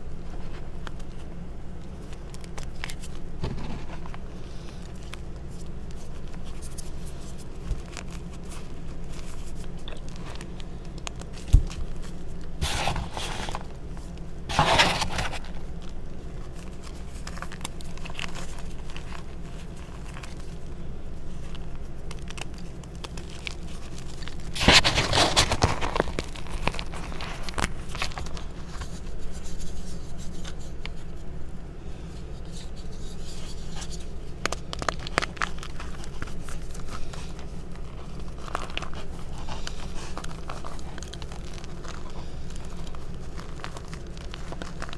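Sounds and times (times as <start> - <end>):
chalk pieces crunching: 0.4 - 31.4, 32.0 - 44.9
chalk crumbling and scraping: 1.9 - 31.3, 32.0 - 44.9.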